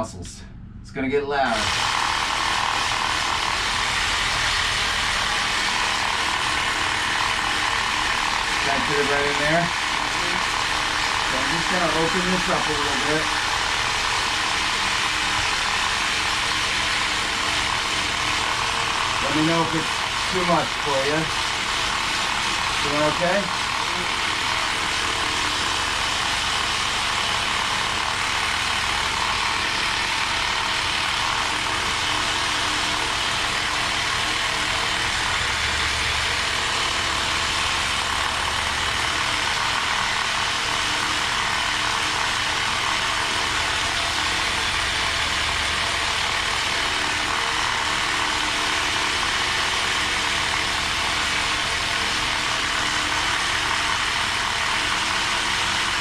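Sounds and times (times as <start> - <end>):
massage machine buzzing: 1.4 - 56.0.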